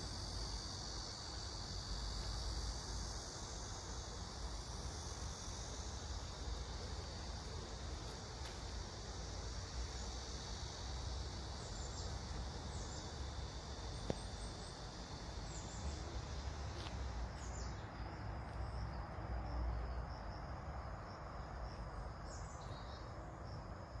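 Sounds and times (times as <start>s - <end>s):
chorus of insects: 0.0s - 24.0s.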